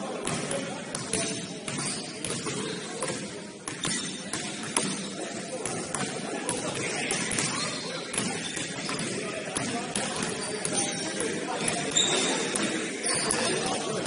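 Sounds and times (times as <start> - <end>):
basketball bouncing on court: 0.2 - 12.7.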